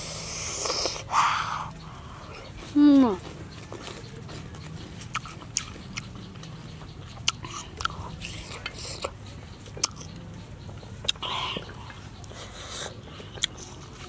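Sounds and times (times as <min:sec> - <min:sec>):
crunchy fruit chewing: 0:00.0 - 0:14.0.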